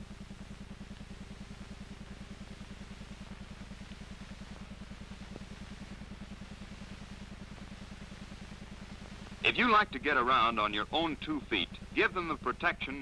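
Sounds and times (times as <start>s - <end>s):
faint hiss: 0.0s - 13.0s
fluttering film soundtrack hum: 0.0s - 13.0s.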